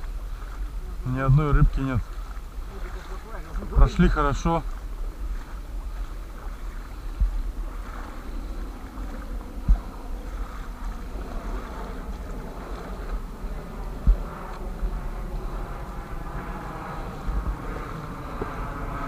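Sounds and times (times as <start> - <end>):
water sloshing around boat: 0.0 - 19.0
wind buffeting microphone: 0.0 - 19.0.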